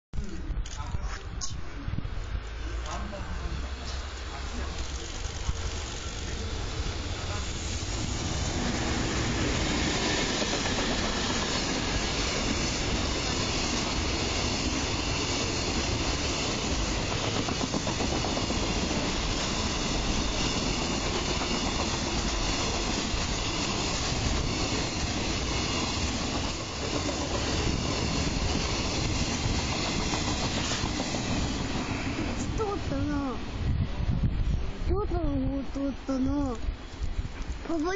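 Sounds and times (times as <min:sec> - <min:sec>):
train wheels rolling on rails: 0:00.2 - 0:34.9.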